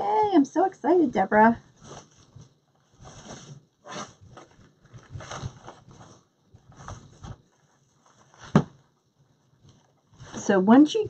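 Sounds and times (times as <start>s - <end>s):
rustling handling noises: 1.6s - 11.0s.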